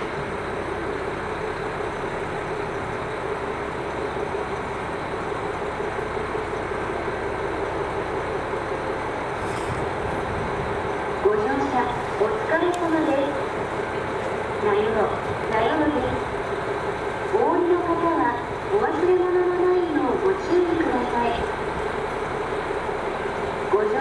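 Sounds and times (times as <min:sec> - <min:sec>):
diesel train engine drone: 0:00.0 - 0:24.0.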